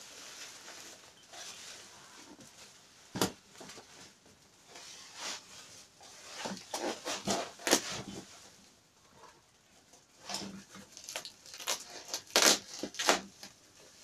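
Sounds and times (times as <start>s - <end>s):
rubbing and rustling: 0.0s - 14.0s.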